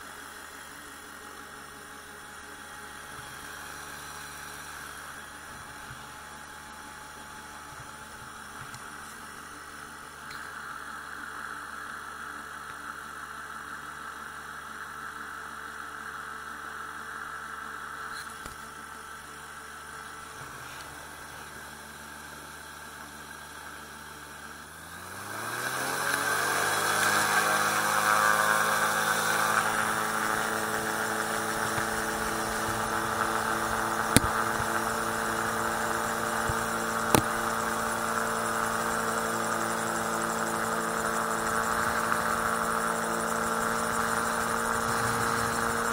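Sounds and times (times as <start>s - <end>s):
aircraft engine and propeller: 0.0s - 45.9s.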